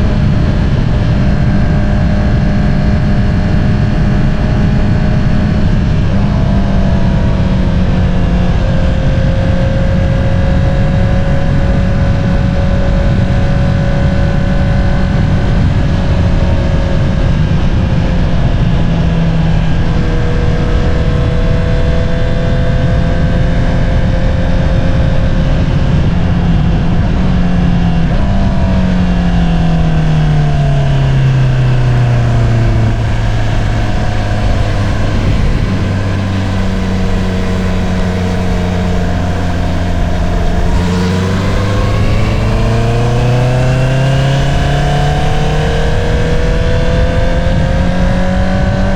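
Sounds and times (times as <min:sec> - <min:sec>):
motorcycle engine while riding: 0:00.0 - 0:48.9
wind noise: 0:00.0 - 0:48.9.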